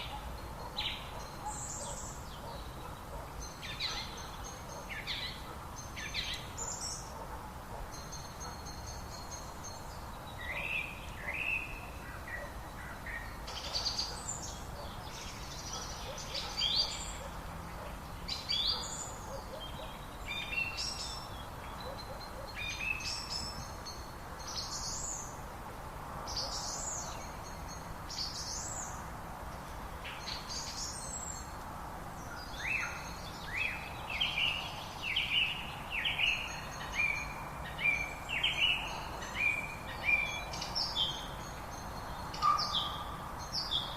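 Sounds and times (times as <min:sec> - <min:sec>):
outdoor background hiss: 0:00.0 - 0:43.9
songbirds singing: 0:00.0 - 0:43.9.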